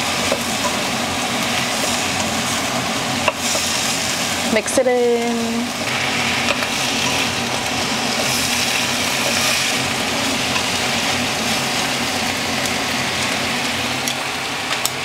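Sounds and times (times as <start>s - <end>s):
okra sizzling in oil: 0.0s - 15.0s.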